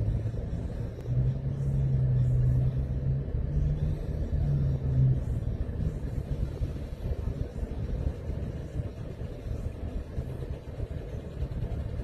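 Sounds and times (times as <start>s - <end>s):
motor vehicle engine rumble: 0.0s - 12.0s
steady low hum: 0.0s - 12.0s.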